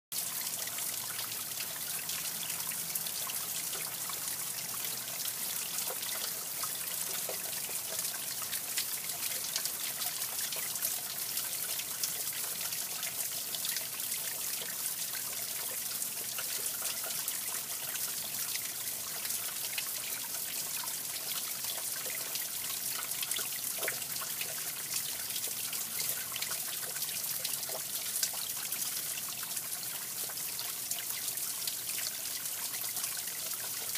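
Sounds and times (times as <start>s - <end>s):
water trickling over rocks: 0.1s - 33.9s.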